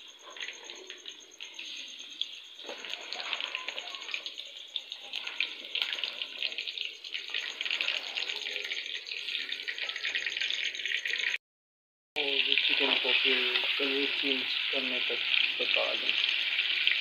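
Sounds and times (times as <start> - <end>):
chicken sizzling in hot fat: 0.0 - 11.4, 12.2 - 17.0.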